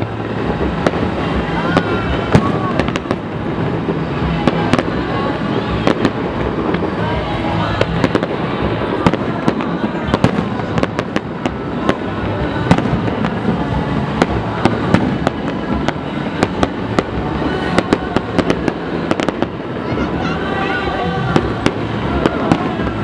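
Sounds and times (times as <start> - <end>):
continuous din: 0.0 - 23.0.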